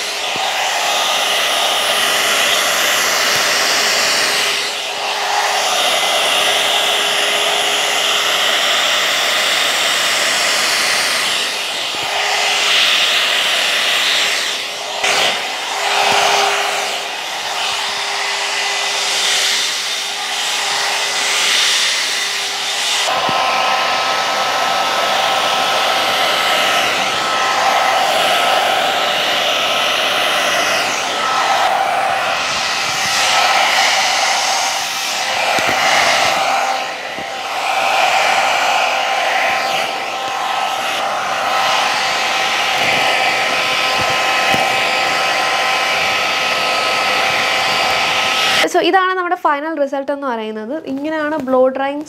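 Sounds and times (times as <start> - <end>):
hot-air brush motor blowing: 0.0 - 48.9.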